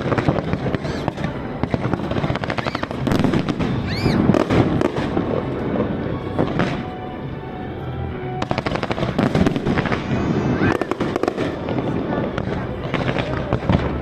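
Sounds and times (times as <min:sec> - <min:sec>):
fireworks bangs and crackling: 0:00.0 - 0:07.3, 0:08.3 - 0:14.0
firework whistle: 0:00.0 - 0:14.0.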